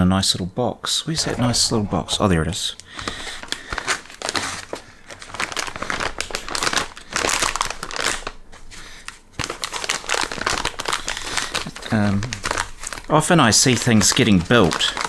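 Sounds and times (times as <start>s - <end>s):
plastic bag crinkling: 1.2s - 15.0s.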